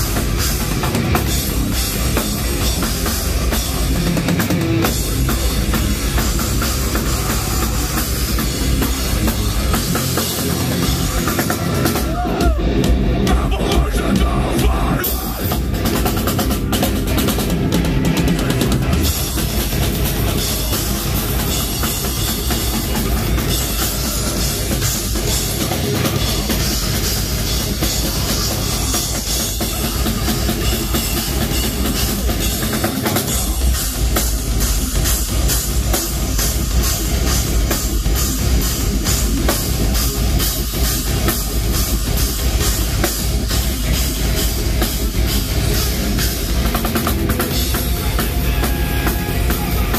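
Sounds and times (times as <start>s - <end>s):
distorted guitars: 0.0s - 49.9s
drum kit: 0.0s - 49.9s.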